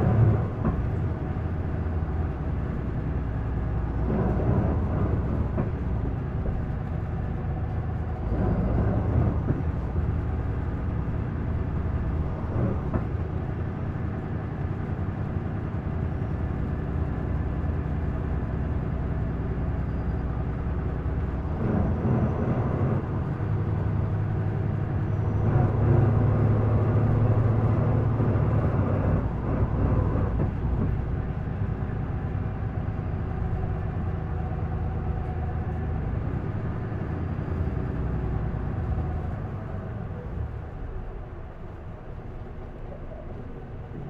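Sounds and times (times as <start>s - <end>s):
bus diesel engine: 0.0s - 44.0s.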